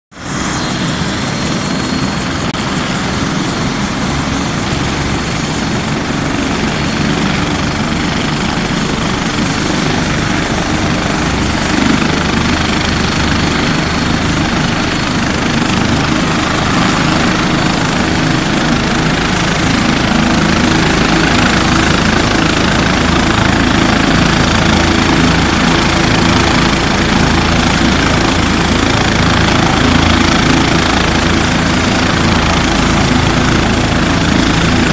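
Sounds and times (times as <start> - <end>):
helicopter rotor and engine: 0.1 - 34.9
steady high whine: 0.1 - 34.9.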